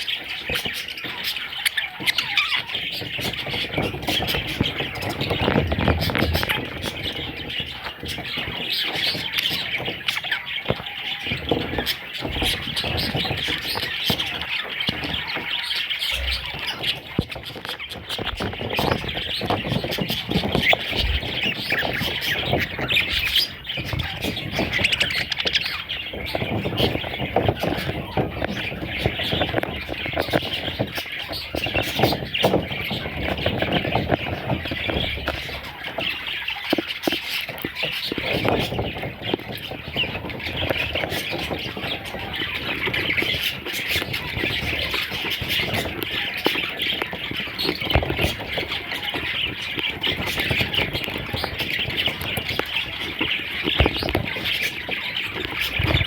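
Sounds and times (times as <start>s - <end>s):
parrot chicks chirping and squawking: 0.0s - 56.0s
rustling: 0.0s - 56.0s.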